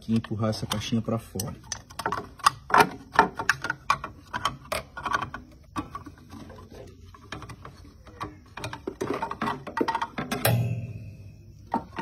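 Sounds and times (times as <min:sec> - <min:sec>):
plastic clicks and rattles: 0:00.0 - 0:10.5.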